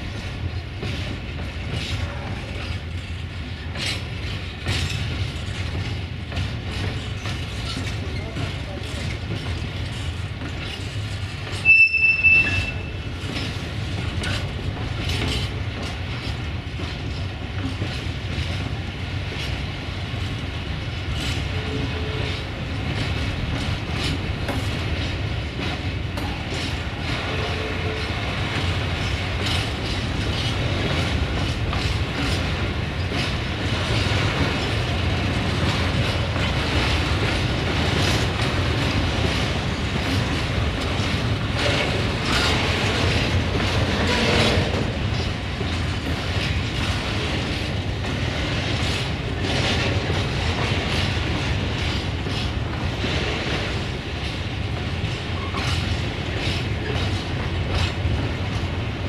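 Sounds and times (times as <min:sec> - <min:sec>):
freight train rumbling past: 0:00.0 - 0:59.0
wheels clicking over rail joints: 0:00.1 - 0:59.0.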